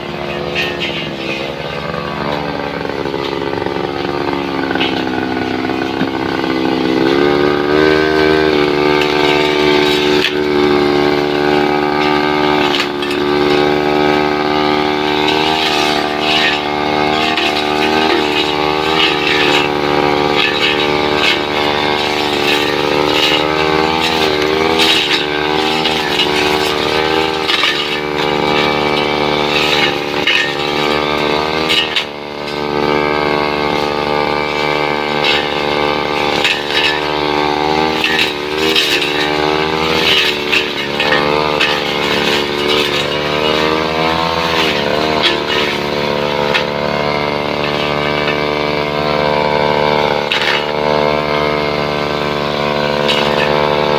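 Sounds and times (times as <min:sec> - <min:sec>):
blade cutting into wood: 0:00.0 - 0:53.9
brush cutter engine revving: 0:00.0 - 0:53.9.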